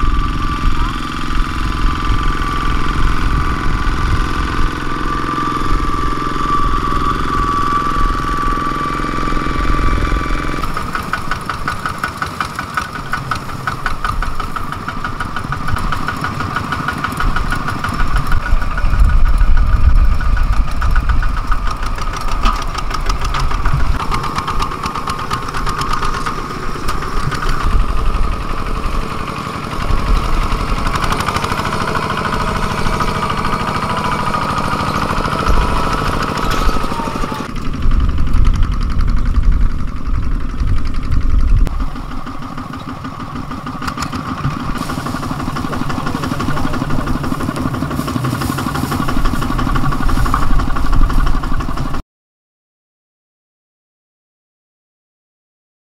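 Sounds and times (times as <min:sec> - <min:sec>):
diesel tractor engines chugging: 0:00.0 - 0:52.0.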